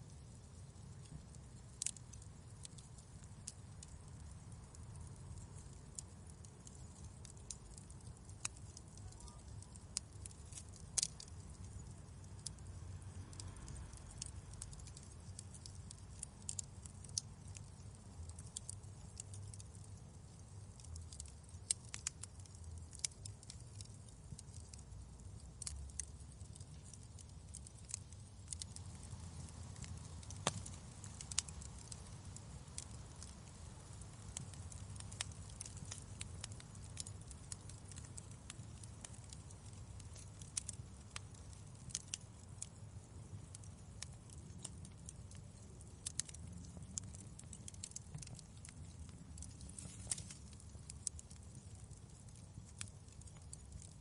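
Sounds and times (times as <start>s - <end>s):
low rumble of fire: 0.0s - 54.0s
wood fire crackling in fireplace: 0.0s - 54.0s.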